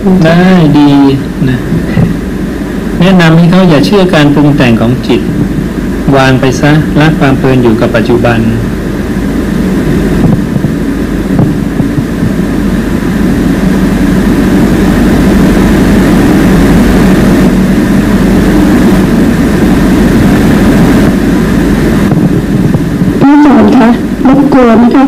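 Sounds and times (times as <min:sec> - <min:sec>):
mechanical drone with low hum: 0:00.0 - 0:25.0.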